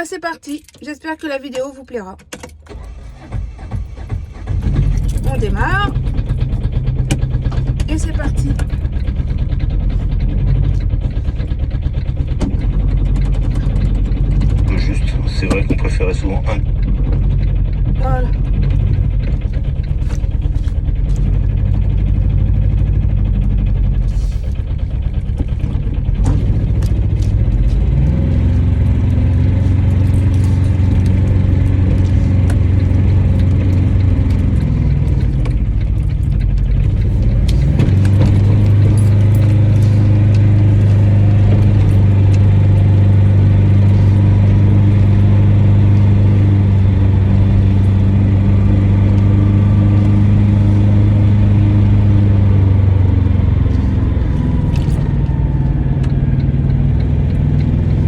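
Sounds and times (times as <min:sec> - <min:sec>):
car engine drone from inside: 0:00.0 - 0:58.0.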